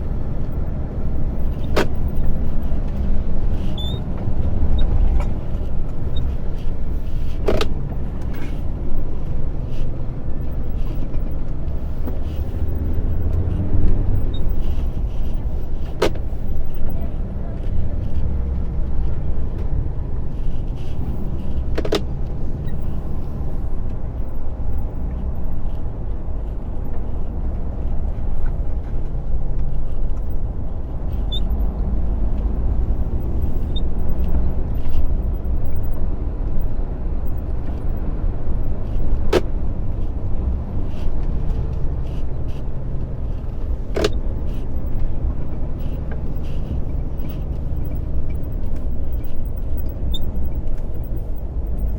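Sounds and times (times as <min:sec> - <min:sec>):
diesel engine and road noise: 0:00.0 - 0:51.9.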